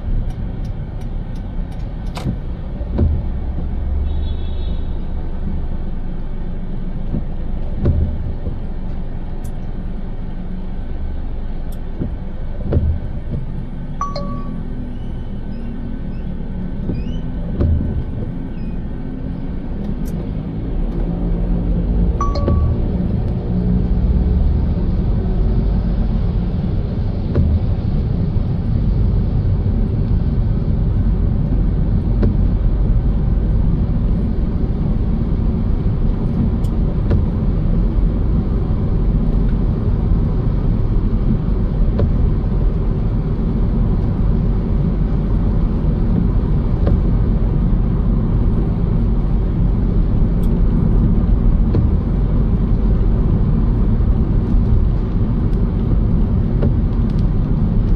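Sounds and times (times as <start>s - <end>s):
car driving on wet road: 0.0s - 57.9s.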